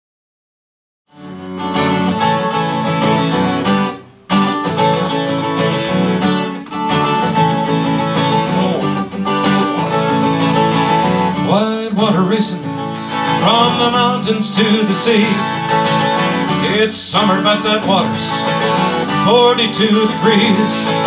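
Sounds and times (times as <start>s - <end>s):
acoustic guitar strumming: 1.1s - 21.0s.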